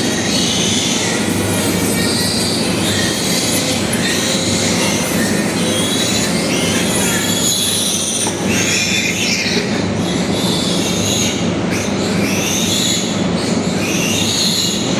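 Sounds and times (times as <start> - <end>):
piglets squealing: 0.0 - 13.2.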